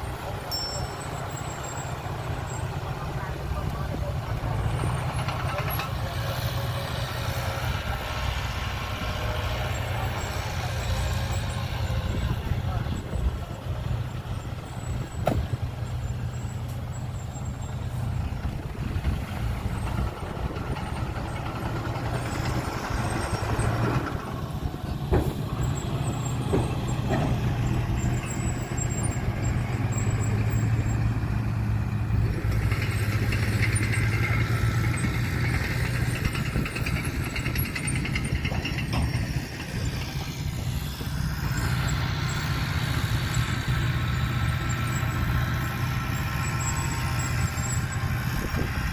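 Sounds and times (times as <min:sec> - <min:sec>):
dump truck engine running: 0:00.0 - 0:48.9.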